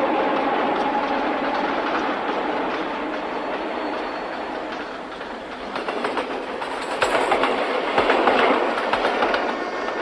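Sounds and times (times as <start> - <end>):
train wheels clacking on rails: 0.0 - 10.0.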